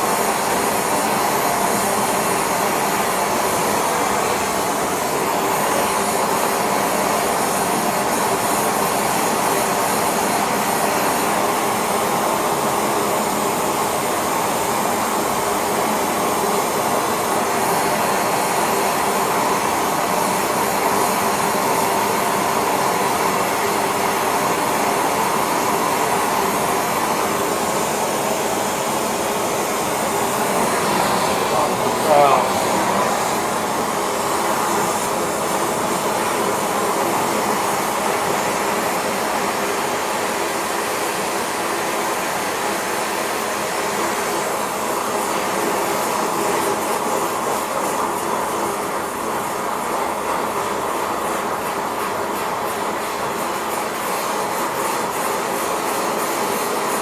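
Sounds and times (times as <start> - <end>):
gas burner flame roaring: 0.0 - 57.0.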